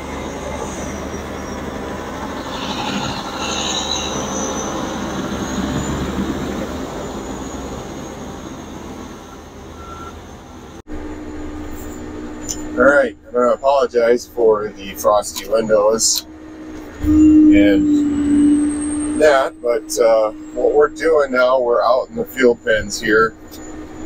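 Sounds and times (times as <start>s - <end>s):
tractor diesel engine passing: 0.0s - 24.0s
thin high squeal: 0.1s - 8.4s, 11.1s - 24.0s.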